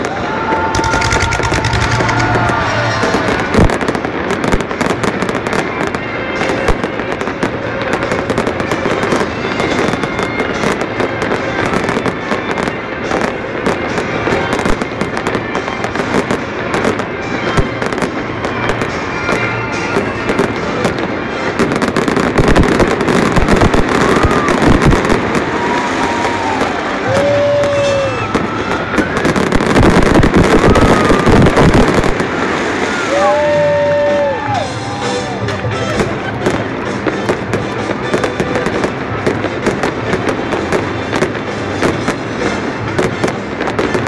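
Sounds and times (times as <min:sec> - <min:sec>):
fireworks booms: 0:00.0 - 0:44.0
fireworks crackling and popping: 0:00.0 - 0:44.0.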